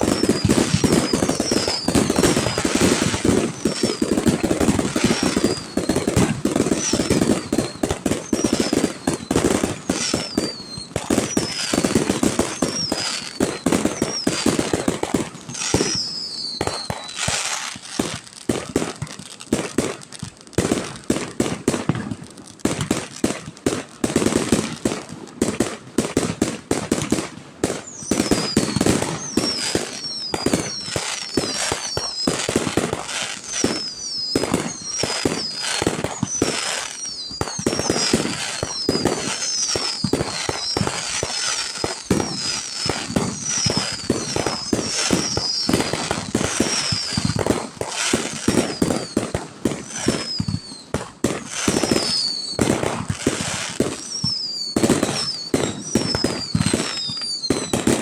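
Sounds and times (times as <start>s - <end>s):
high whistles falling in pitch: 0.0s - 18.1s, 27.7s - 58.0s
fireworks bangs and crackling: 0.0s - 58.0s.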